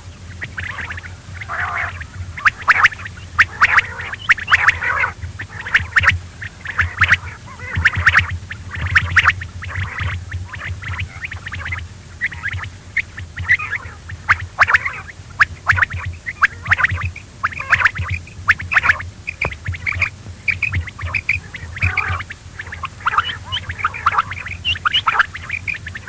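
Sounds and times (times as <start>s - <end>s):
quail calling: 0.0s - 26.0s
steady low hum: 0.0s - 26.0s.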